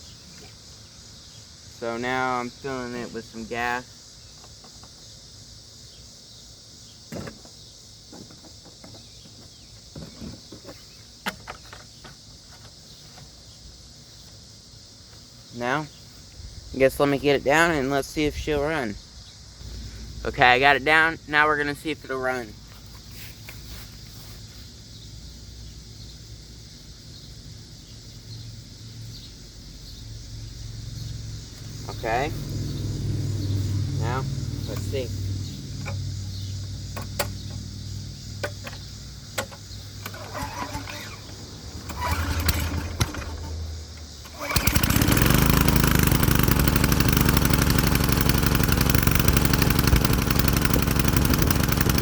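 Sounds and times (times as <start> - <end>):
crickets chirping: 0.0 - 49.7
high insect drone: 0.0 - 52.0.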